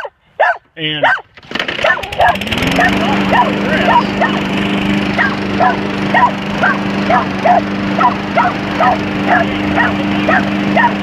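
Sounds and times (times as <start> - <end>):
dog barking: 0.0 - 4.5, 5.2 - 11.0
lawnmower engine running: 1.2 - 11.0.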